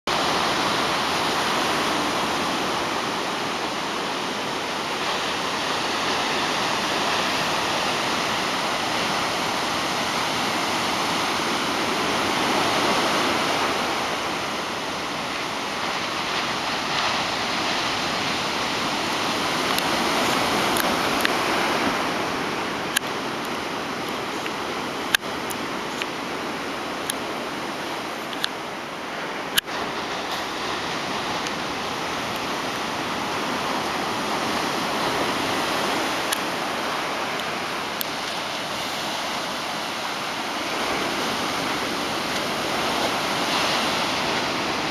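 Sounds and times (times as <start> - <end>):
ocean waves breaking on beach: 0.1 - 44.9.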